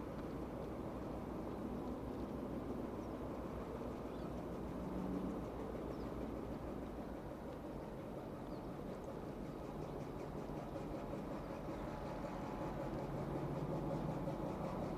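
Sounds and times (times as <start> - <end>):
distant diesel locomotive engine: 0.0 - 14.9.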